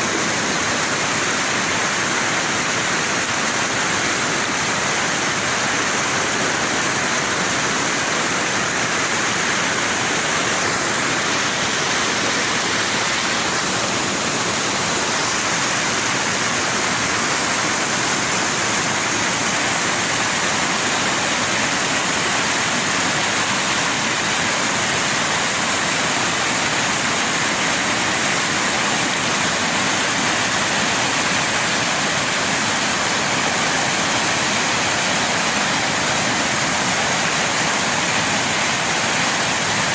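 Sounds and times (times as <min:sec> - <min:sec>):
rushing storm water: 0:00.0 - 0:39.9.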